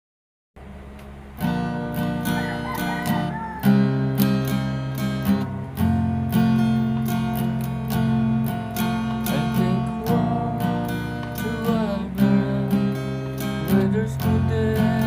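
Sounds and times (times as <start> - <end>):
acoustic guitar strumming: 0.6 - 15.0.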